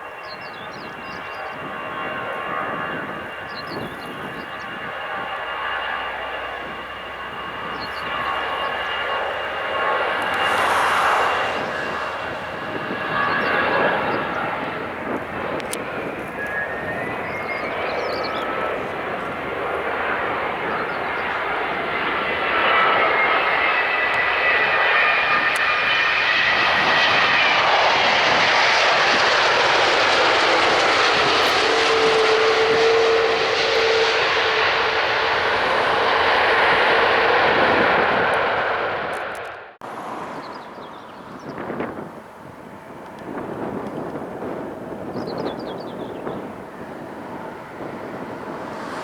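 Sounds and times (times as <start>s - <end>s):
jet engines roaring and whining: 0.0s - 49.0s.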